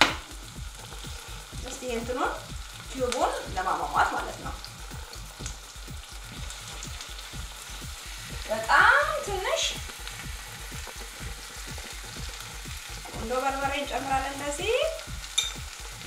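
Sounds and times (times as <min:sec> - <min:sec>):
sauce sizzling in a frying pan: 0:00.0 - 0:16.0.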